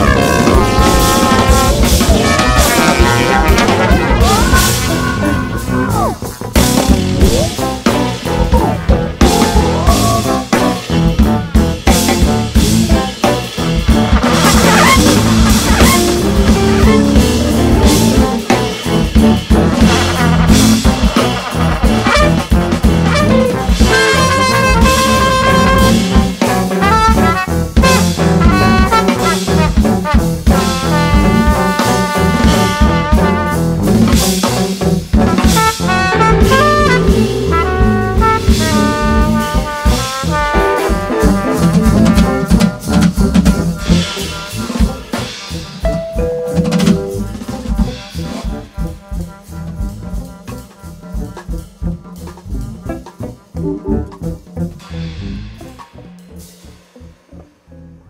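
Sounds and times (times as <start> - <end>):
trumpet lead line: 0.0 - 34.2, 35.1 - 51.4, 53.5 - 55.2
jazz drum kit and rhythm section: 0.0 - 58.0.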